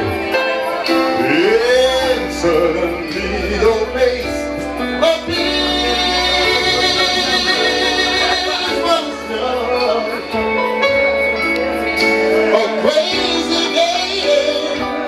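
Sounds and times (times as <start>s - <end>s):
man singing into a microphone: 0.0s - 10.9s, 11.8s - 15.0s
backing music: 0.0s - 15.0s.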